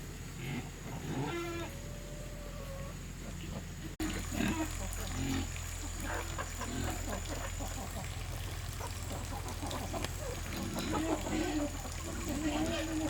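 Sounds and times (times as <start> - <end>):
farm animals grunting and calling: 0.0 - 13.0.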